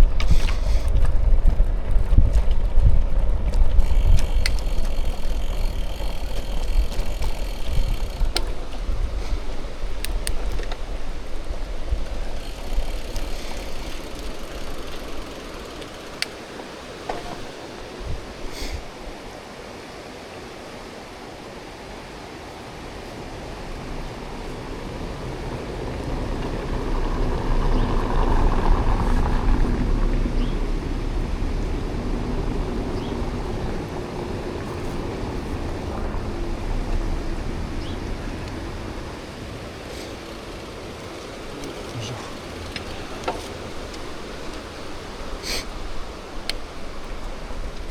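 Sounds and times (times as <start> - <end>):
wind buffeting microphone: 0.0 - 19.4, 22.8 - 47.9
bicycle tyres rolling: 0.0 - 19.6, 22.4 - 47.9.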